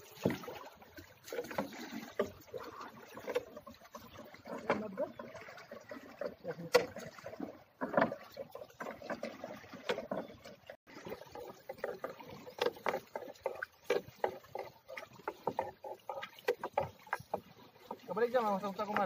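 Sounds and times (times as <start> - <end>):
water splashing: 0.0 - 19.0.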